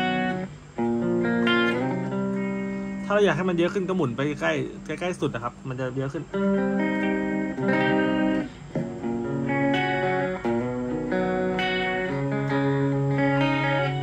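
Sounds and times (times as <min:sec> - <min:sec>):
clean electric guitar chords: 0:00.0 - 0:14.0.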